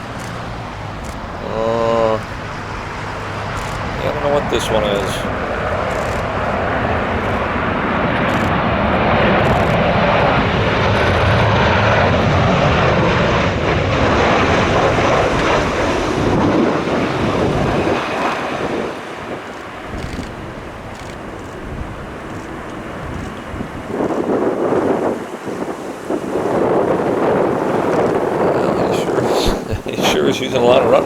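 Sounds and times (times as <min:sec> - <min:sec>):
jet airliner passing close by: 0:00.0 - 0:31.0.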